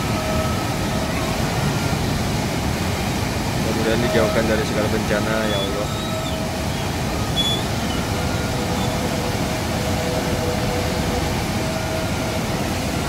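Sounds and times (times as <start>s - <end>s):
river water rushing over a weir: 0.0s - 13.0s.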